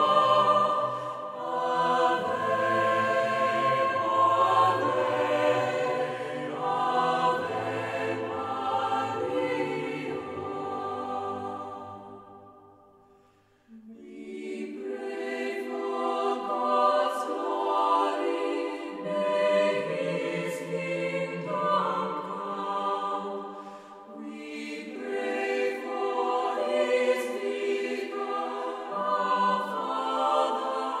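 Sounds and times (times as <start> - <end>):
choir singing slow chords: 0.0 - 31.0.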